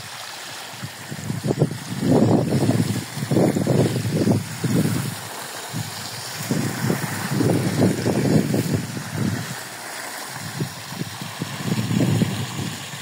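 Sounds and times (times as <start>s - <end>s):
water gushing from a hose: 0.0s - 13.0s
wind rumbling on microphone: 0.0s - 13.0s.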